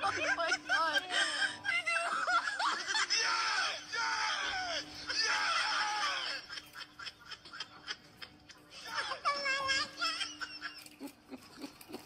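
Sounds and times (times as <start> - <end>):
woman wailing and sobbing: 0.0 - 11.1.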